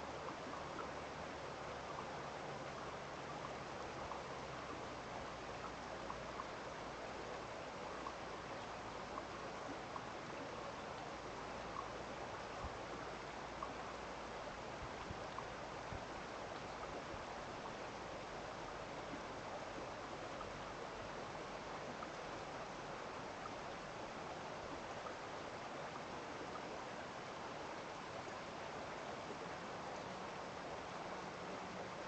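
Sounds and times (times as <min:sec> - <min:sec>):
faint ticks: 0:00.0 - 0:27.0
stream water rushing: 0:00.0 - 0:32.0.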